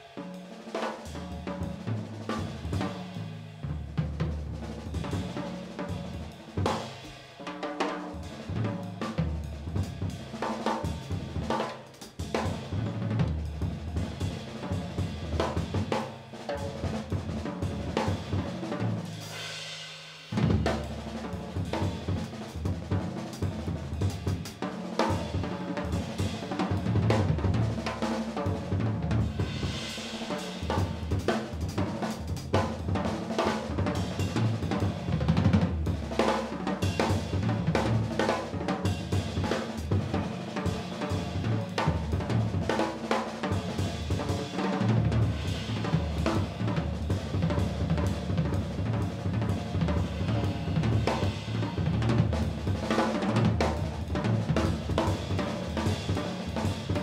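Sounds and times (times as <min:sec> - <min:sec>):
drum kit played with sticks: 0:00.0 - 0:57.0.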